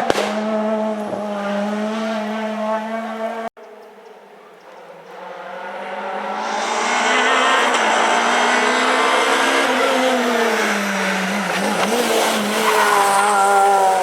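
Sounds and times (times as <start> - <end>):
rally car engine under hard throttle: 0.0 - 3.5, 4.9 - 14.0.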